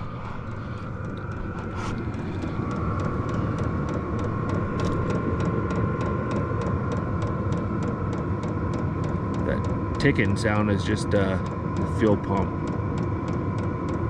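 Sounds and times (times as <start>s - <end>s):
air heater rumble: 0.0s - 14.0s
blower whine: 0.0s - 14.0s
fuel pump ticking: 0.0s - 14.0s.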